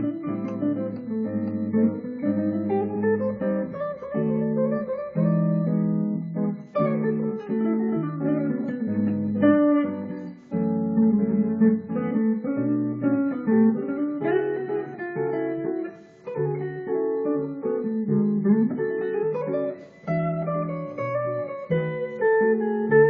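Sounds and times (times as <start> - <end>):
clean electric guitar chords: 0.0 - 23.0.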